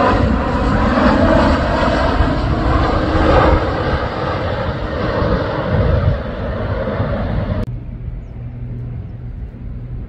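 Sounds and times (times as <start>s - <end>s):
jet passing overhead: 0.0s - 10.0s.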